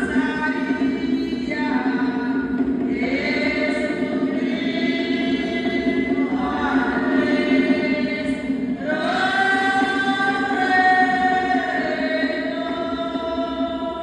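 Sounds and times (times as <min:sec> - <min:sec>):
group singing a chant: 0:00.0 - 0:14.0.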